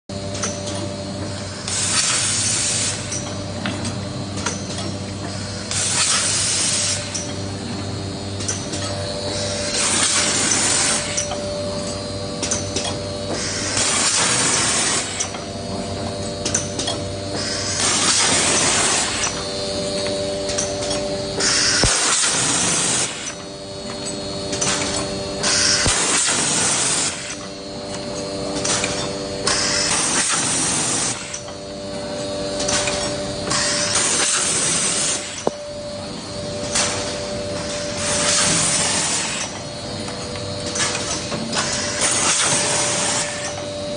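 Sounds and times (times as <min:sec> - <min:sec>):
steady machine hum: 0:00.1 - 0:43.9
packing machine hiss: 0:01.4 - 0:03.1, 0:05.2 - 0:07.2, 0:08.9 - 0:11.2, 0:13.2 - 0:15.8, 0:17.3 - 0:43.9.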